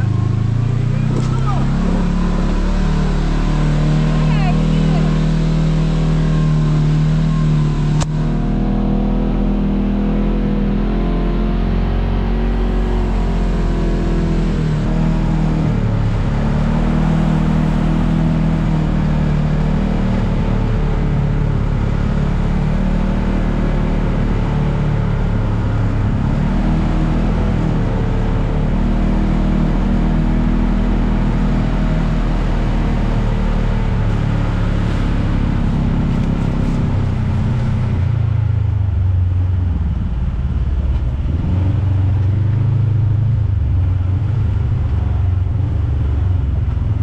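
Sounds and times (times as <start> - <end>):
utility vehicle engine running: 0.0 - 47.0.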